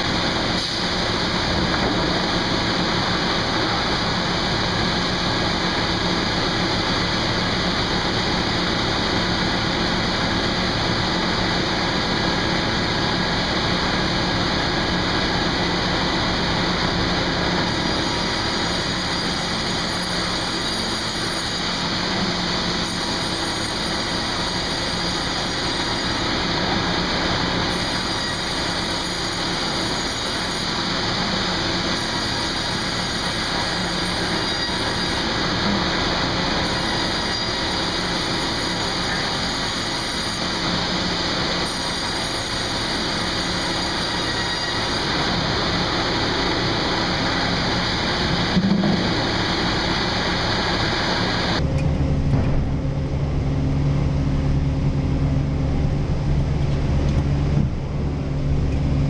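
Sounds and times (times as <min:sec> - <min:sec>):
sawmill machinery running: 0:00.0 - 0:59.0
steady hum: 0:00.0 - 0:59.0.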